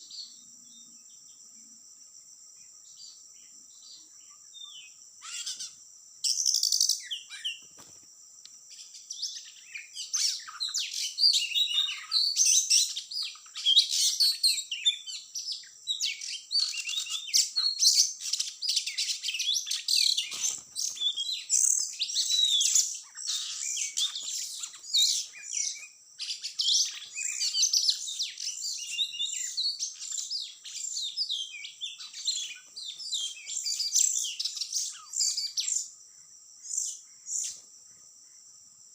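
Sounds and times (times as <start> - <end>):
high insect drone: 0.0 - 38.9
bird singing varied chirps: 2.6 - 7.9, 8.7 - 36.0, 36.6 - 37.7.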